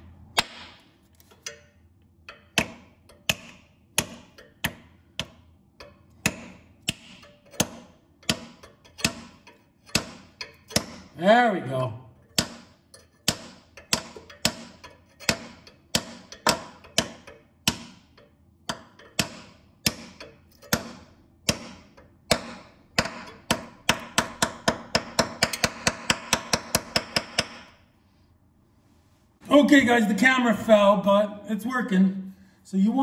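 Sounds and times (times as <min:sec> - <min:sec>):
hammer tapping metal: 0:00.4 - 0:11.2, 0:12.2 - 0:27.8.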